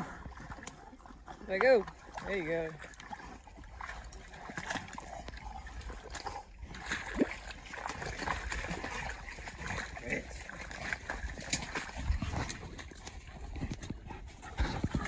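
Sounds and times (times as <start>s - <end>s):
splashing through muddy water: 0.0s - 15.0s.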